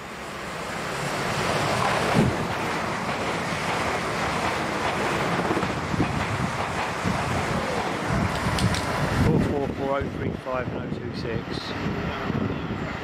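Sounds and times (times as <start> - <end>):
train rushing past: 0.0 - 13.0.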